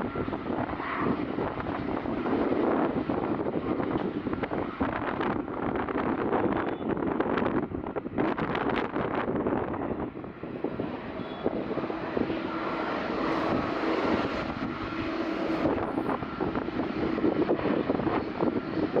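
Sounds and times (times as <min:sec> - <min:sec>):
jet engines running: 0:00.0 - 0:19.0
wind gusting on microphone: 0:00.0 - 0:19.0.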